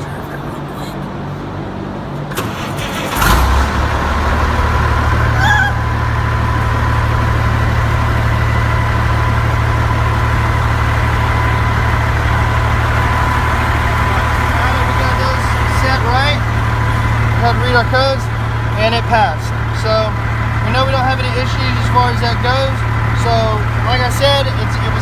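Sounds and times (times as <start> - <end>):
truck engine starting and idling: 0.0 - 25.0.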